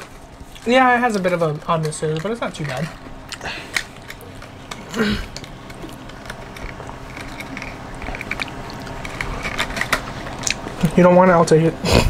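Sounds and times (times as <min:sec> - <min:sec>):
snack packaging rustling: 0:00.0 - 0:11.0.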